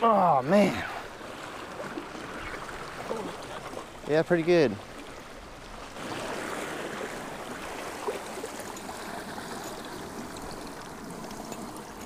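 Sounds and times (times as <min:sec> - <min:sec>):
seawater sloshing around rocks: 0:00.0 - 0:12.0.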